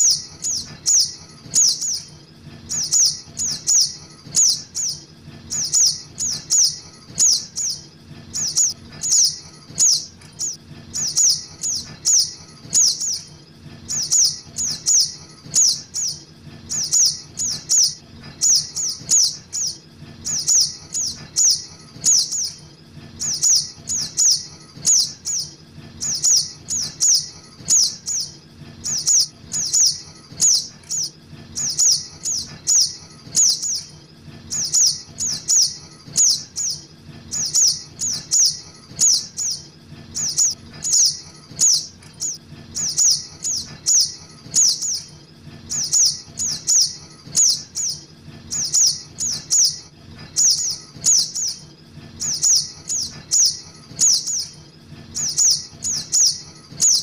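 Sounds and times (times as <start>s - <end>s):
bird high chirps: 0.0s - 57.0s.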